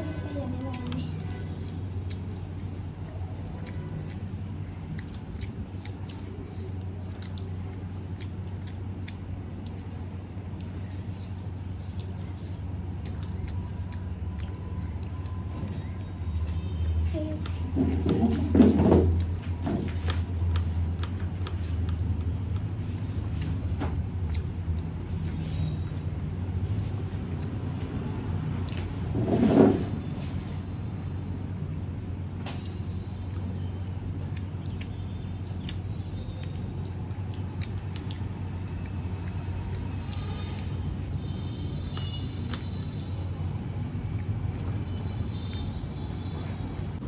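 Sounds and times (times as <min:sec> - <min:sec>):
rice mixed by hand and chewed: 0:00.0 - 0:47.0.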